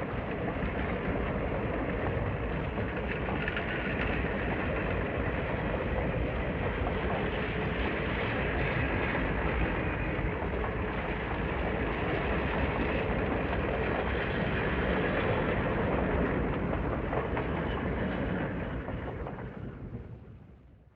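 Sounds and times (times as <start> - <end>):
train rumbling on rails: 0.0 - 20.9.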